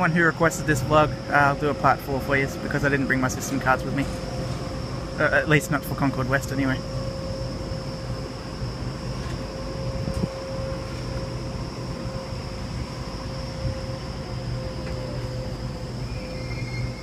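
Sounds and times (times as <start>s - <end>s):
electric train humming: 0.0s - 17.0s
thin high whine: 0.0s - 17.0s.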